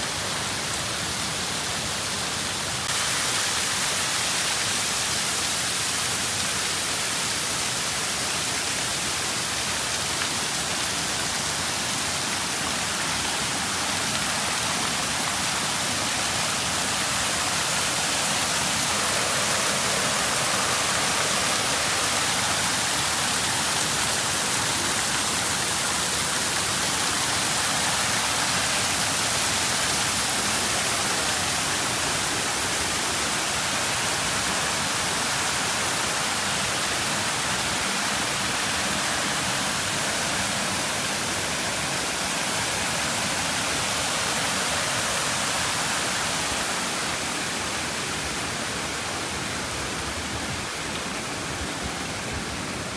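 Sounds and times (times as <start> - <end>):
waterfall splashing into pool: 0.0 - 52.9.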